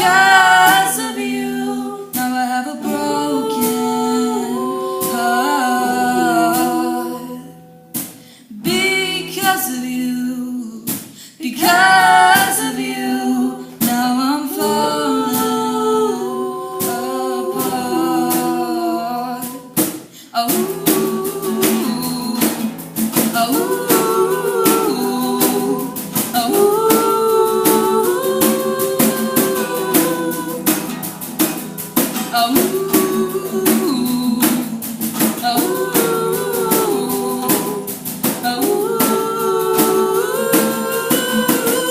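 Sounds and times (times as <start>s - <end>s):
girls singing wordless melody: 0.0s - 41.9s.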